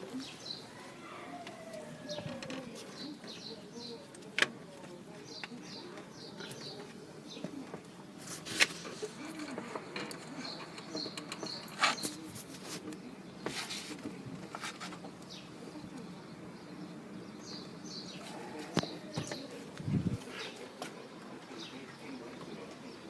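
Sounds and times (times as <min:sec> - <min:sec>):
birds cooing: 0:00.0 - 0:08.0, 0:08.8 - 0:12.3, 0:14.1 - 0:23.0
birds chirping: 0:00.0 - 0:23.0.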